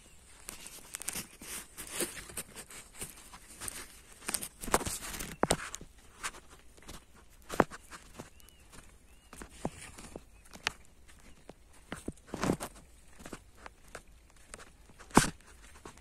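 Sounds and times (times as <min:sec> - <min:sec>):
footsteps of person walking: 0:00.0 - 0:16.0
rustles and soft clicks: 0:00.0 - 0:16.0.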